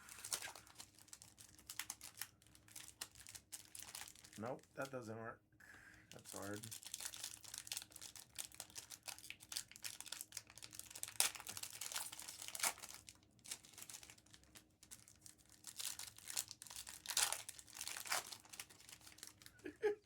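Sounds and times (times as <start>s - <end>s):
foil wrappers crinkling and tearing: 0.0s - 4.8s, 6.1s - 19.7s.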